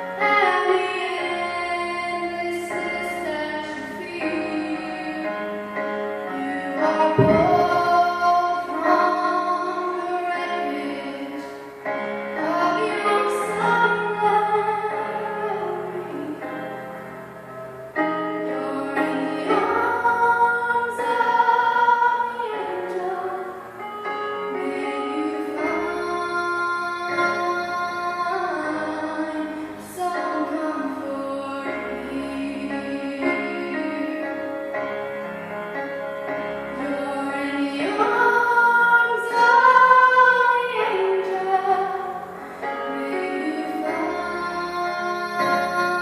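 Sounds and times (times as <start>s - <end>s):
instrumental accompaniment: 0.0s - 46.0s.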